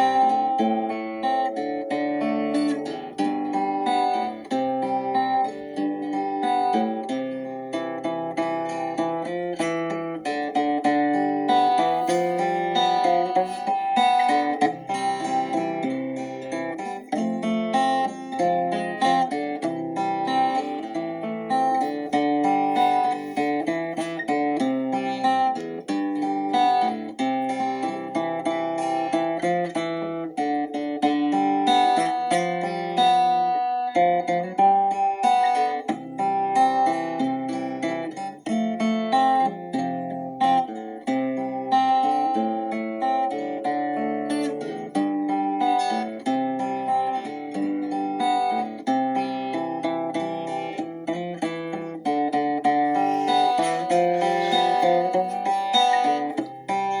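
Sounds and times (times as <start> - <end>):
acoustic guitar picked and strummed: 0.0 - 57.0.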